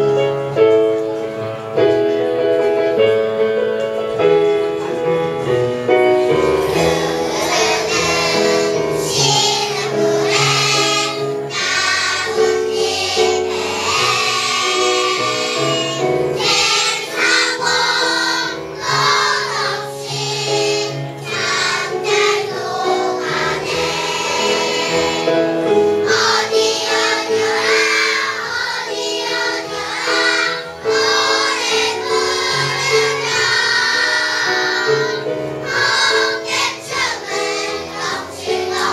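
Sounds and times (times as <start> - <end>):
children's choir singing: 4.8 - 38.9.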